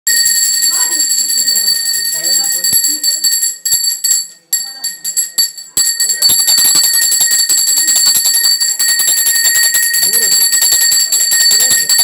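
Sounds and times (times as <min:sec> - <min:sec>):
hand bell ringing rapidly: 0:00.1 - 0:12.0.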